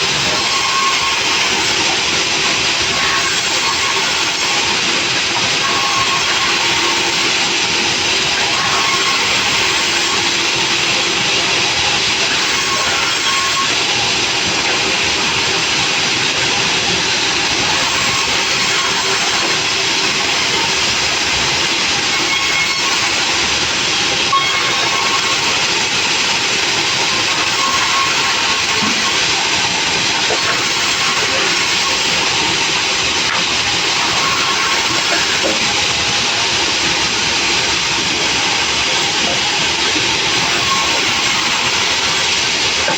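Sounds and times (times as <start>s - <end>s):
sawmill saw running: 0.0s - 42.9s.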